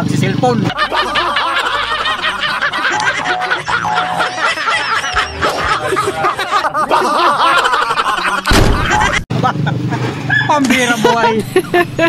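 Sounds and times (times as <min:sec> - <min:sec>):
men laughing loudly: 0:00.7 - 0:12.0.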